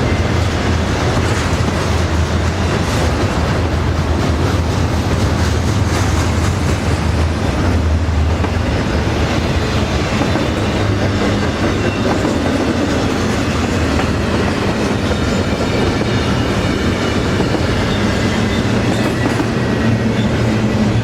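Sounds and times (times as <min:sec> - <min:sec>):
freight train wheels rumbling on rail: 0:00.0 - 0:21.0.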